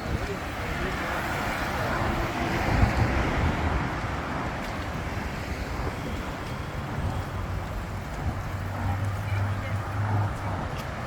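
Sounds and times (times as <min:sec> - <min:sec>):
passing cars rumble: 0:00.0 - 0:11.0.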